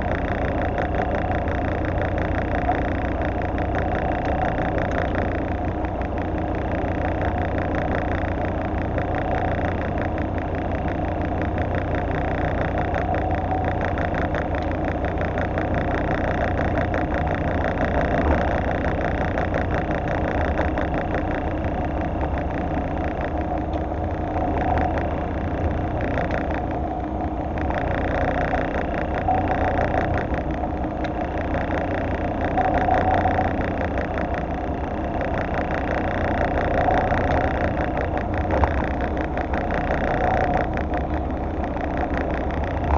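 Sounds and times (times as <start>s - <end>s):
boat engine idling: 0.0s - 42.9s.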